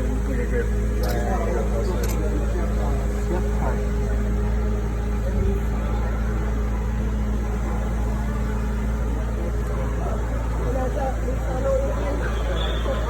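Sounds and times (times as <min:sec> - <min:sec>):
constant tone: 0:00.0 - 0:13.0
low engine hum: 0:00.0 - 0:13.0.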